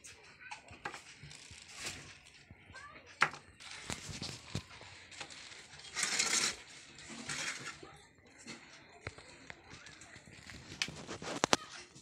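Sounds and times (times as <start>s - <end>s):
plastic bag rustling and crackling: 0.7s - 2.9s, 3.5s - 12.0s.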